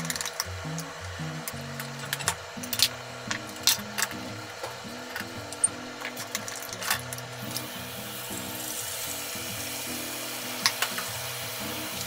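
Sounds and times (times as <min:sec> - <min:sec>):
egg sizzling in hot pan: 0:00.0 - 0:12.0
soft background music: 0:00.0 - 0:12.0.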